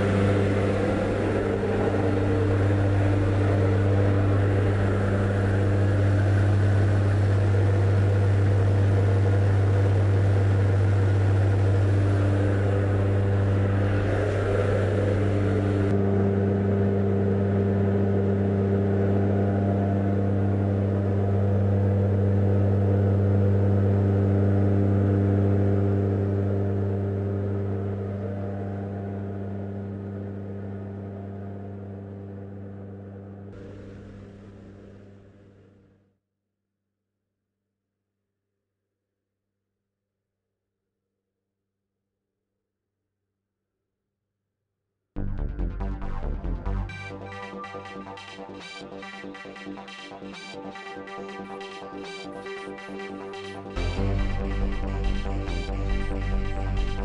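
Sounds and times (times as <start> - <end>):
plane engines droning: 0.0 - 35.9, 46.9 - 57.0.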